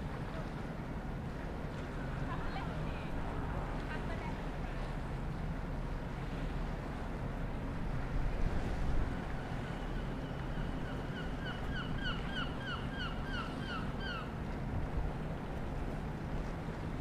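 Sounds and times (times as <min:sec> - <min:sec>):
low rumble of wind and sea: 0:00.0 - 0:17.0.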